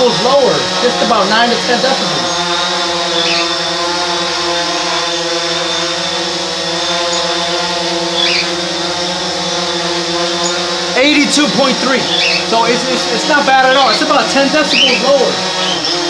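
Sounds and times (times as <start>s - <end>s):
drone propeller hum: 0.0s - 16.0s.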